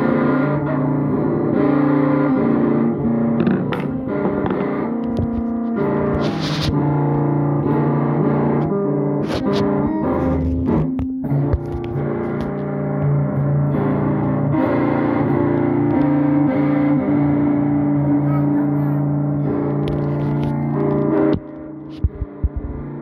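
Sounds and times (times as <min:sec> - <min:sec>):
long held music chords: 0:00.0 - 0:23.0.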